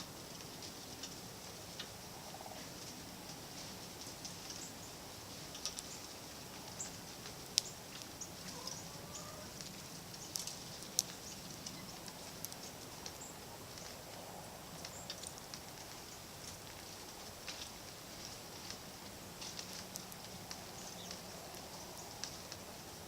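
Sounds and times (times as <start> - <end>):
steady outdoor hiss: 0.0 - 23.0
songbirds chipping: 0.2 - 23.0.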